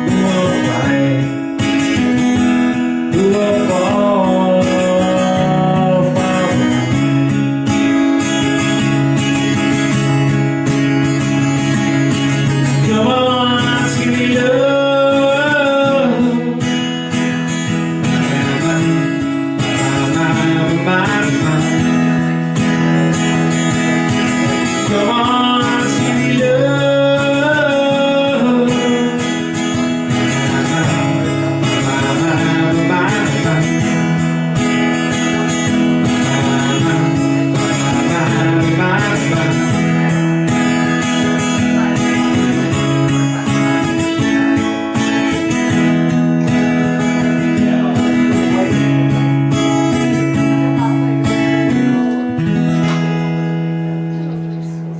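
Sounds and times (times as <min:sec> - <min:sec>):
higher melody line: 0:00.0 - 0:54.0
acoustic guitar strumming: 0:00.0 - 0:54.9.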